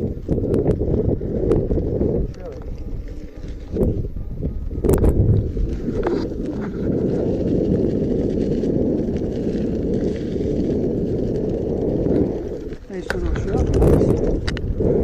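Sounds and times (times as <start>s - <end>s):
tyre rumbling on dirt trail: 0.0s - 15.0s.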